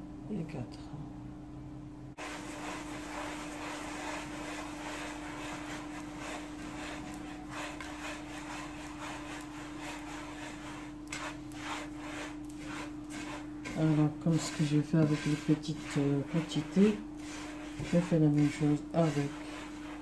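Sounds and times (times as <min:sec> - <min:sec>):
hands raking grains in metal dish: 0:02.2 - 0:20.0.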